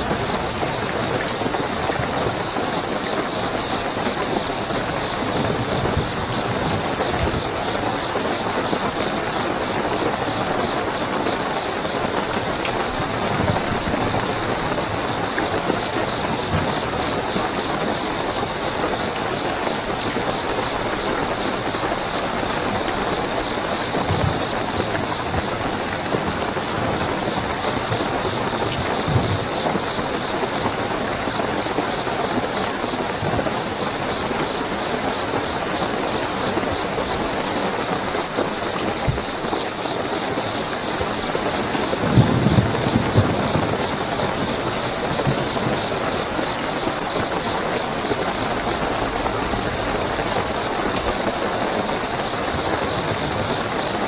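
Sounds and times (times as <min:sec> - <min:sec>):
crickets chirping: 0:00.0 - 0:54.0
heavy rainfall: 0:00.0 - 0:54.0.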